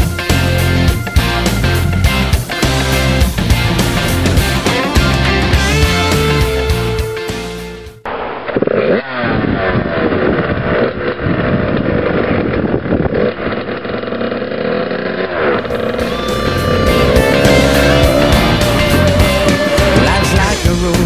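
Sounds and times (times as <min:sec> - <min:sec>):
dirt bike engine revving: 0:01.5 - 0:21.0.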